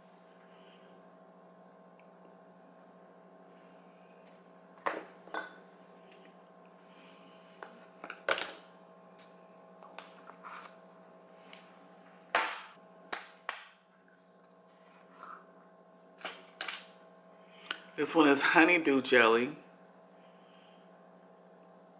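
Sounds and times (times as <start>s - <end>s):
steady electrical hum: 0.0s - 21.9s.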